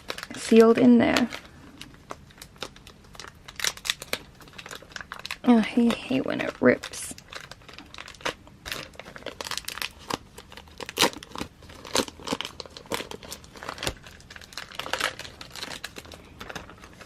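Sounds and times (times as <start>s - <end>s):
plastic sleeve crinkling and tearing: 0.0s - 17.0s.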